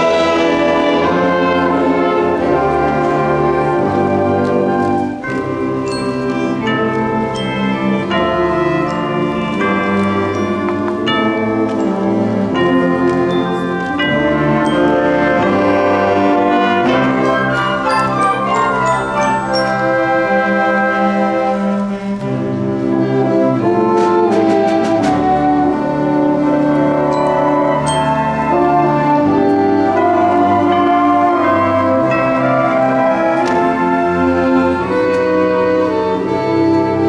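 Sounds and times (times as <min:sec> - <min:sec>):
percussion strikes: 0:00.0 - 0:36.8
concert band playing: 0:00.0 - 0:37.0.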